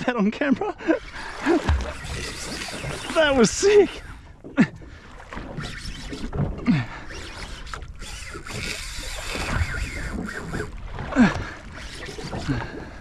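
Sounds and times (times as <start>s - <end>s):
wind: 0.0s - 13.0s
water noise: 0.8s - 13.0s.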